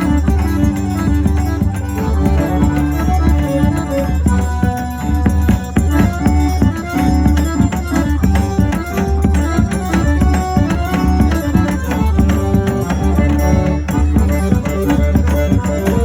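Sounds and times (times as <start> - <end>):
band playing instrumental music: 0.0 - 16.0
driving drum beat: 0.0 - 16.0.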